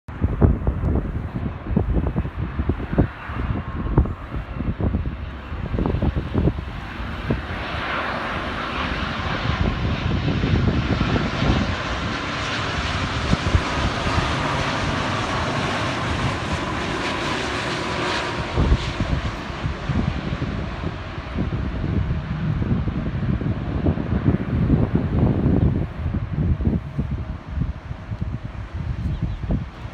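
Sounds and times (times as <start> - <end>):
faint jet whine: 0.1 - 29.9
jet engines rushing: 0.1 - 29.9
wind buffeting microphone: 0.1 - 29.9.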